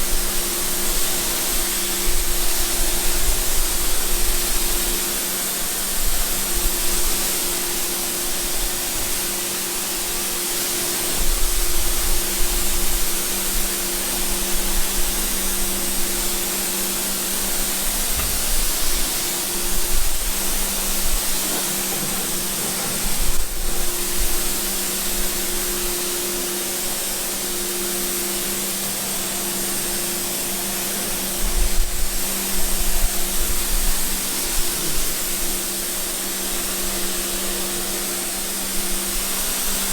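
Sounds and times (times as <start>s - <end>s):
cleaning machine hiss and hum: 0.0s - 39.9s.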